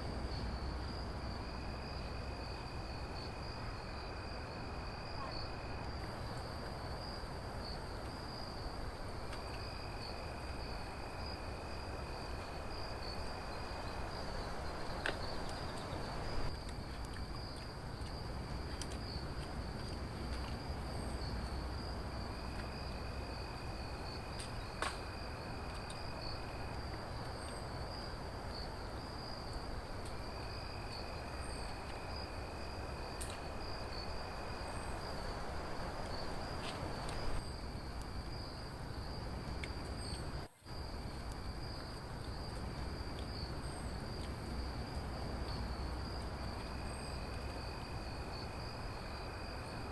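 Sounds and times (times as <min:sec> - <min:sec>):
background hiss: 0:00.0 - 0:49.9
lower insect call: 0:00.0 - 0:49.9.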